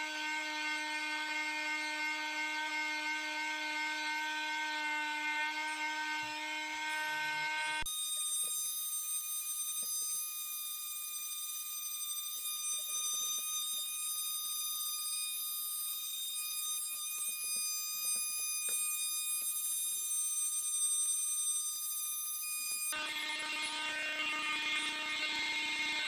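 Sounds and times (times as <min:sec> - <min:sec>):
detail sander whining: 0:00.0 - 0:26.0.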